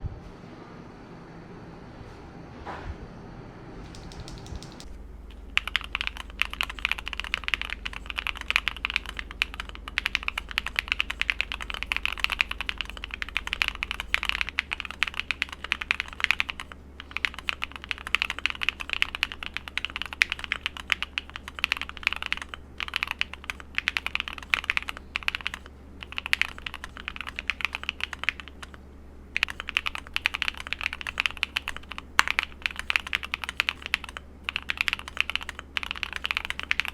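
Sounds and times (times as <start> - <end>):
mechanical keyboard typing: 3.9 - 28.8, 29.4 - 36.9.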